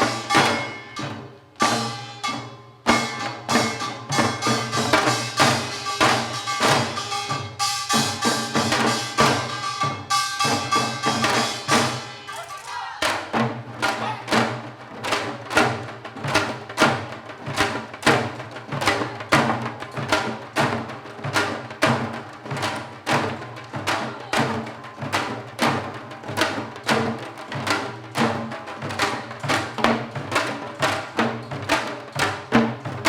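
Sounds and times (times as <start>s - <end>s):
hourglass drums played fast: 0.0s - 33.0s.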